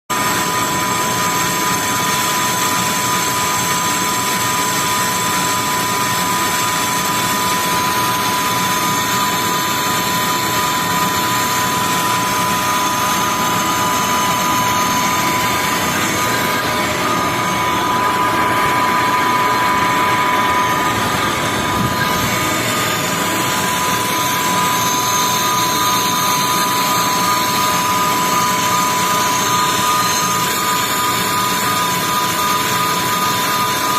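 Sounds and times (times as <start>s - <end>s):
metal lathe cutting: 0.1s - 33.9s
high whine: 0.2s - 33.9s.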